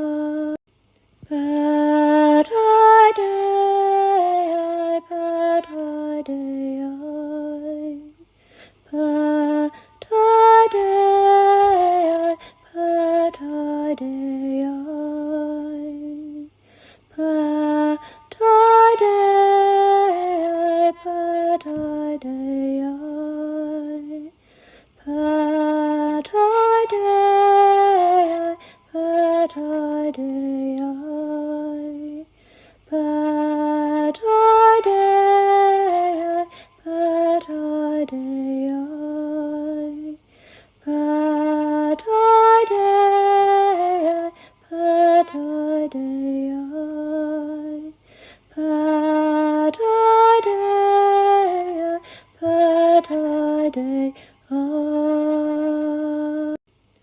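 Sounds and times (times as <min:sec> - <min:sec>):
woman singing solo chant: 0:00.0 - 0:00.6, 0:01.2 - 0:56.6.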